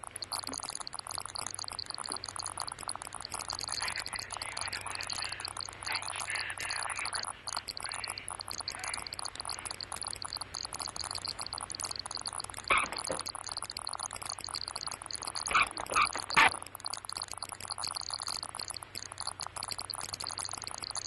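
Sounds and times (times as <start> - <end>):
film soundtrack crackle and hiss: 0.0 - 21.0.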